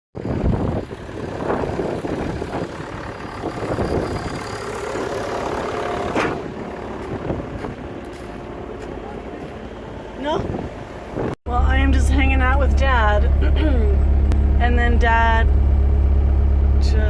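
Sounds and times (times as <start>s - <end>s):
diesel engine running: 0.2s - 17.0s.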